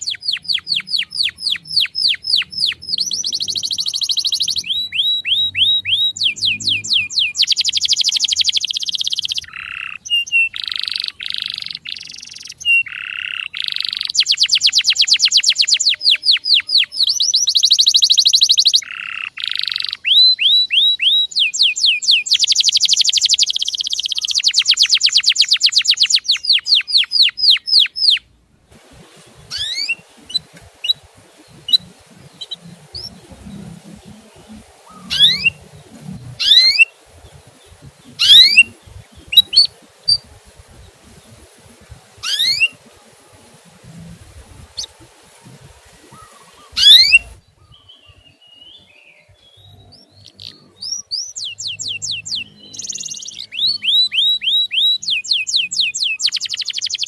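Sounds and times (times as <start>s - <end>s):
faint bird chirps: 0.0s - 28.3s, 29.2s - 57.0s
canary singing trills: 0.0s - 57.0s.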